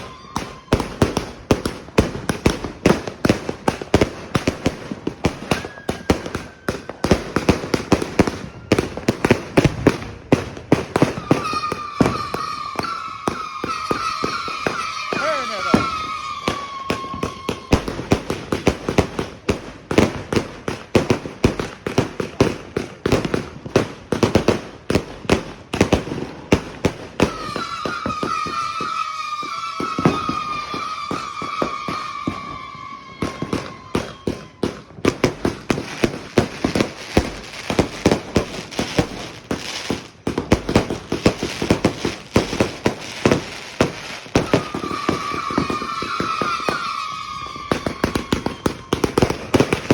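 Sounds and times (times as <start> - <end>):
falling firework whistles: 0.0 - 19.4, 26.0 - 49.9
firework bangs and crackles: 0.0 - 49.9.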